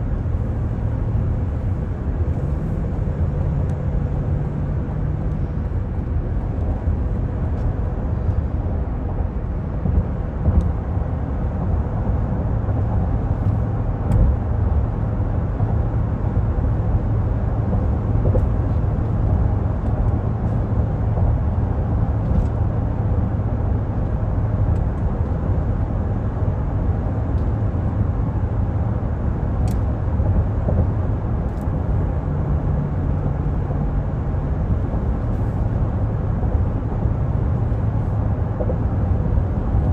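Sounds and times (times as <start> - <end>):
engine hum: 0.0 - 39.9
road and tyre rumble: 0.0 - 39.9.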